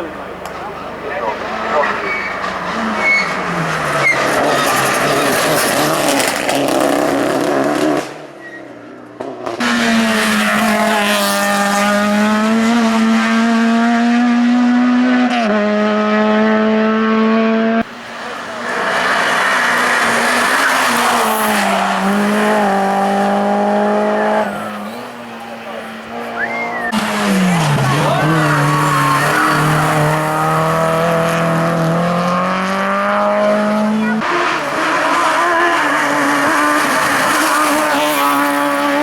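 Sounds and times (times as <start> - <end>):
race car engine high-revving: 0.6 - 8.3, 9.2 - 39.0.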